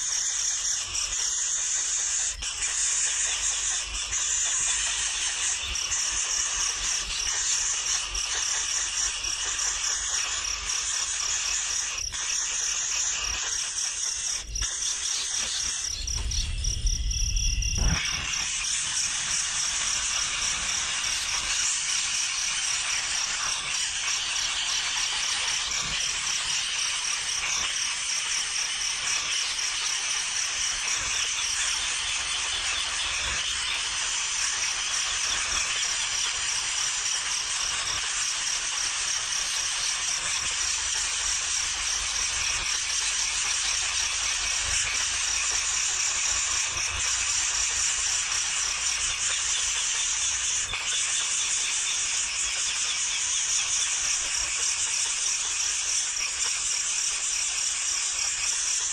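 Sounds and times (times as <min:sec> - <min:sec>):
nestling birds chattering: 0:00.0 - 0:58.9.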